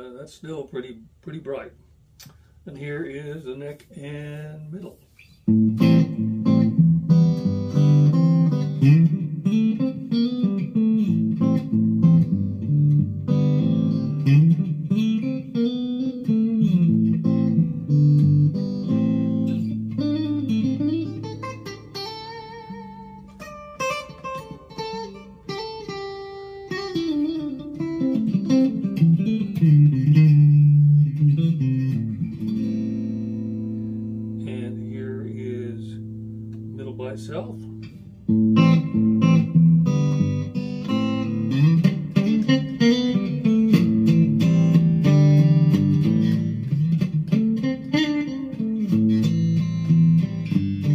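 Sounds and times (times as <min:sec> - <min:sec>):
electric guitar playing: 0:05.2 - 0:50.9.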